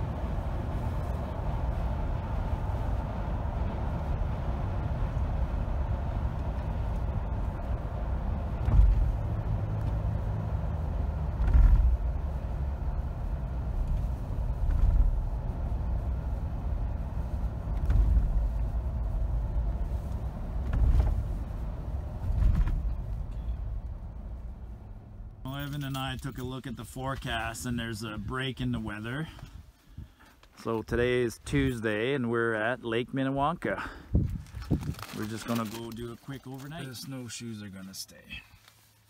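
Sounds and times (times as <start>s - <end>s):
car cabin road and engine rumble: 0.0s - 39.0s.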